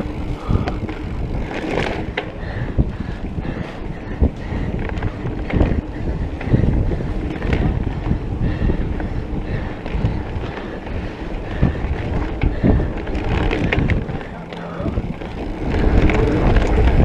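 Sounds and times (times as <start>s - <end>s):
bike rattling and knocking: 0.0s - 17.0s
bike tyres rumbling on dirt: 0.0s - 17.0s
wind buffeting microphone: 0.0s - 17.0s.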